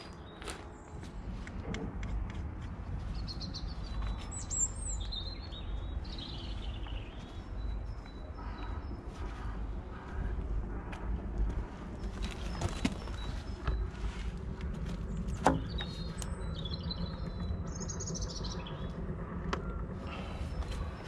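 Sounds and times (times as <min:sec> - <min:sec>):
small birds chirping and singing: 0:00.0 - 0:10.6, 0:11.4 - 0:21.0
steady low rumble: 0:00.0 - 0:21.0.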